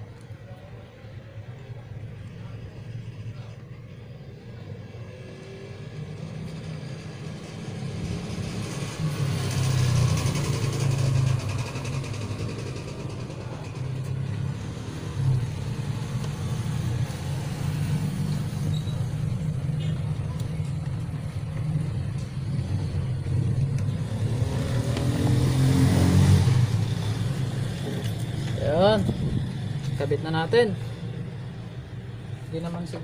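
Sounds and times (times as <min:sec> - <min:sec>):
vehicle engine running: 0:05.6 - 0:33.0.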